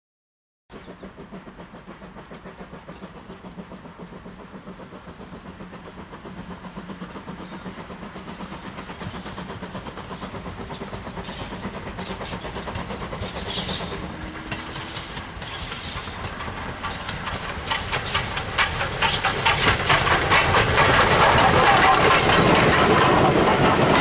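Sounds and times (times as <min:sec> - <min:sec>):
steam locomotive rhythmic beat: 0:00.7 - 0:24.0.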